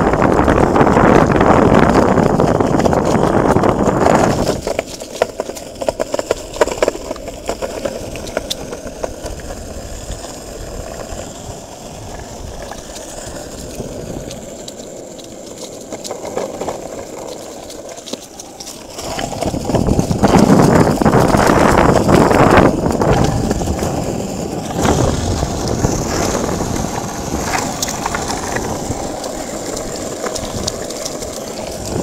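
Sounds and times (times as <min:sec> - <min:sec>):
longboard wheels rolling on asphalt: 0:00.0 - 0:32.0.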